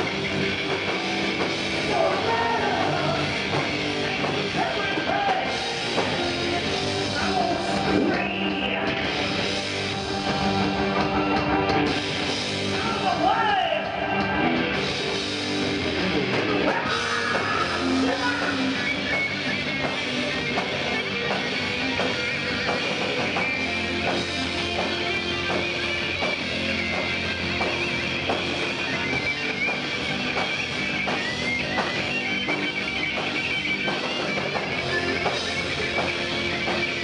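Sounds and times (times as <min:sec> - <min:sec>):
electric guitars: 0:00.0 - 0:37.0
glam rock band playing live: 0:00.0 - 0:37.0.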